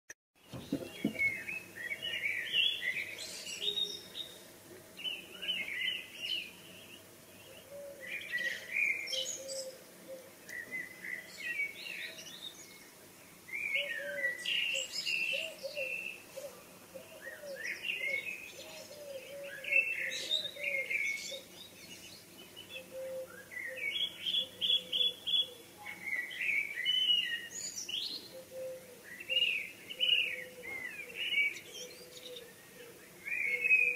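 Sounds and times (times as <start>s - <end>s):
songbirds warbling: 0.4s - 33.9s.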